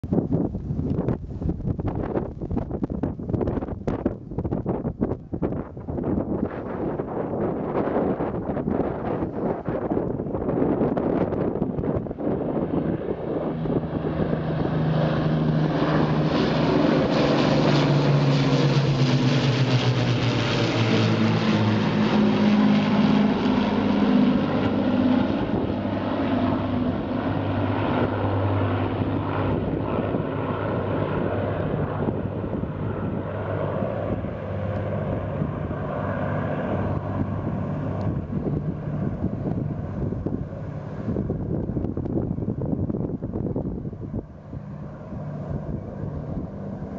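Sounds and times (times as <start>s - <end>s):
wind noise on microphone: 0.0s - 46.9s
propeller aircraft flying past: 0.1s - 46.9s.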